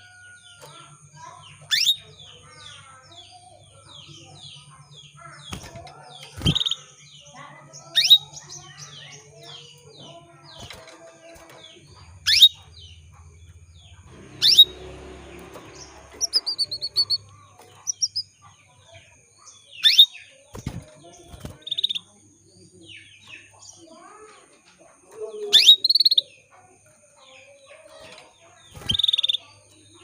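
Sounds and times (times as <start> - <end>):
canary chirping: 0.0 - 30.0.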